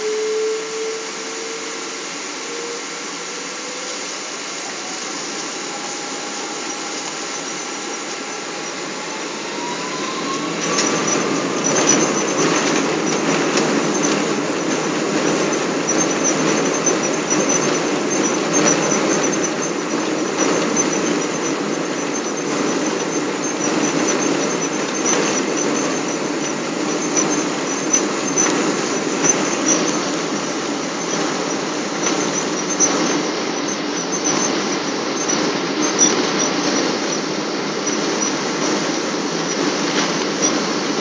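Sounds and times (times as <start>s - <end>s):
airplane cabin noise: 0.0s - 41.0s.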